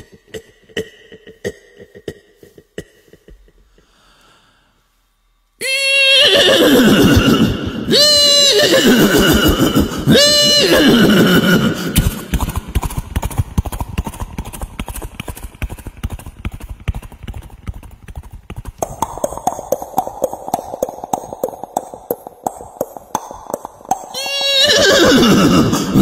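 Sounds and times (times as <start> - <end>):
man imitating galloping hoofbeats: 0.0 - 3.8, 5.6 - 26.0.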